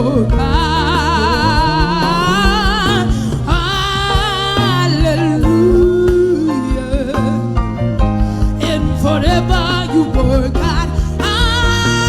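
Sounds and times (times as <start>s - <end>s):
high voice singing with vibrato: 0.0s - 7.6s, 8.6s - 12.0s
instrumental backing: 0.0s - 12.0s.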